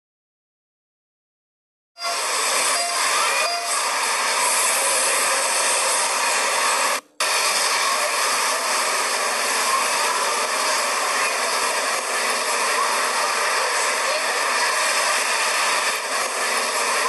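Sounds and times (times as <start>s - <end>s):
steady hiss: 2.1s - 17.0s.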